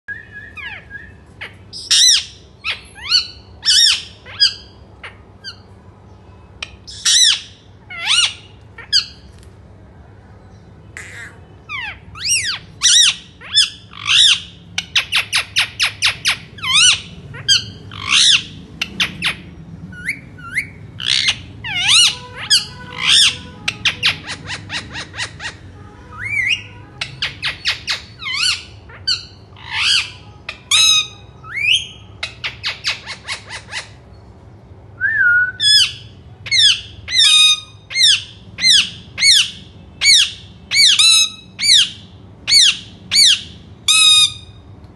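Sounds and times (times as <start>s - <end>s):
parakeet squawking: 0.5s - 5.7s, 6.6s - 9.3s, 10.8s - 34.1s, 35.6s - 44.6s.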